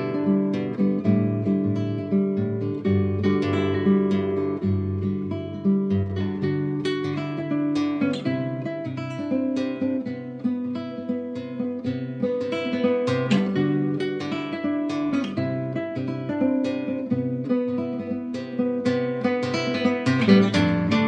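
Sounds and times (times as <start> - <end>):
solo acoustic guitar: 0.0 - 21.0.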